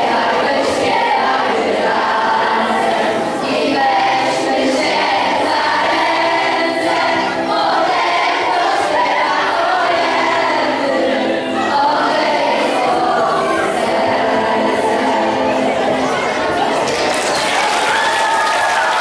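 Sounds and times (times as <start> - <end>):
children singing: 0.0 - 17.1.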